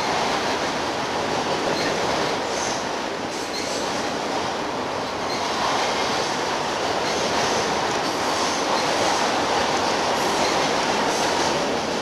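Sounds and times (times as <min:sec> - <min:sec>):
train cars rolling over bridge: 0:00.0 - 0:12.0.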